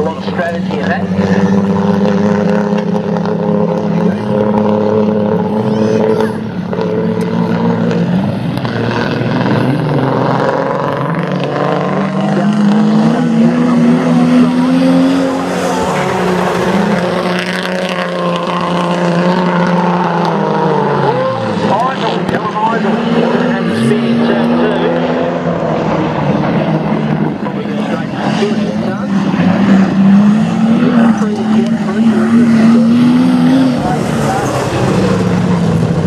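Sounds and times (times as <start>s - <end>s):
racing car engines: 0.0s - 36.0s.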